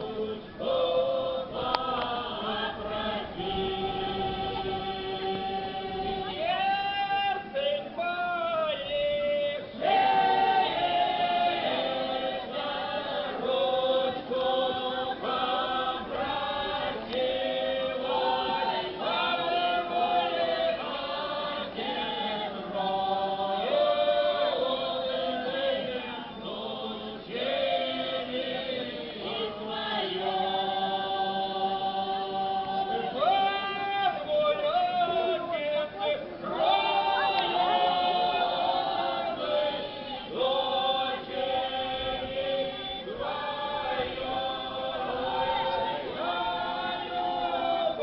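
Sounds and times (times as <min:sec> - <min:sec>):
folk choir singing: 0:00.0 - 0:48.0.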